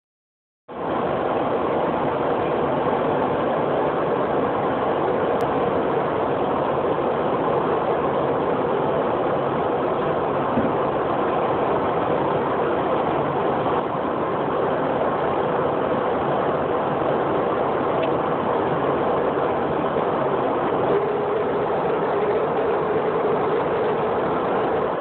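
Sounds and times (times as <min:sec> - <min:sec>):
jet engines rushing drone: 0:00.7 - 0:25.0.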